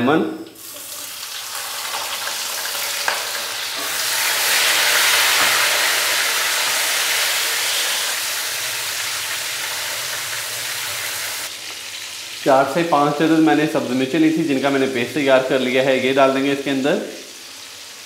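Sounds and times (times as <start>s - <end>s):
food sizzling in hot oil: 0.6s - 13.4s, 15.5s - 18.0s.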